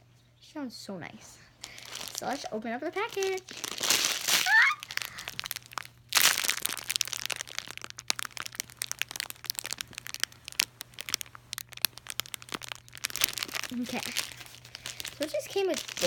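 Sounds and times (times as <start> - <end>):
plastic packaging crinkling: 1.6 - 16.0.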